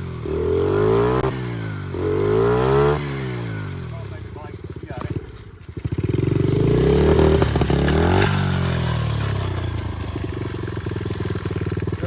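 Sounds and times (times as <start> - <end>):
small engine revving: 0.0 - 12.0.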